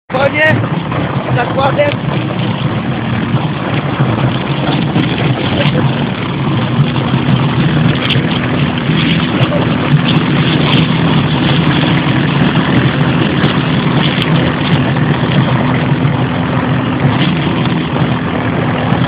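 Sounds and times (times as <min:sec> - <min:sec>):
quad engine running: 0:00.1 - 0:19.0
rough rushing noise: 0:00.1 - 0:19.0.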